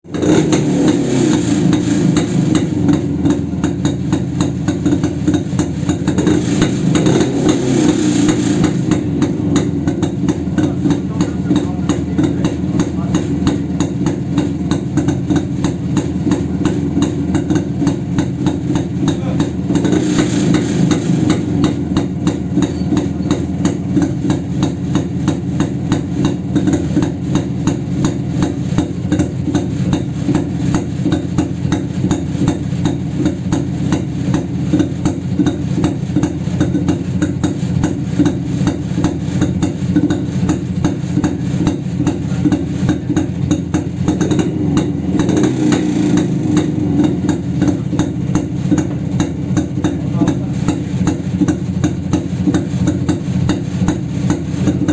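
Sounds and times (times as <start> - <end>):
two-stroke motorcycle engine running: 0.0 - 54.9.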